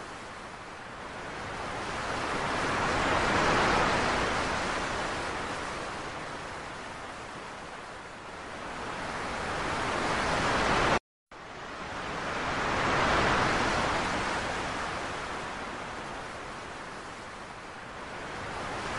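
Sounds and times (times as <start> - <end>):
small waves breaking on beach: 0.0 - 18.9.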